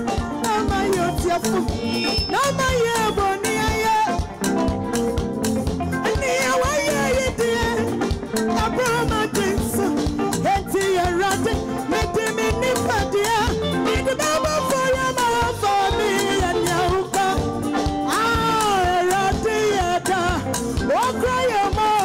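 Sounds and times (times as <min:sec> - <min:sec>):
woman singing into microphone: 0:00.0 - 0:04.3, 0:06.0 - 0:22.0
gospel band playing: 0:00.0 - 0:22.0.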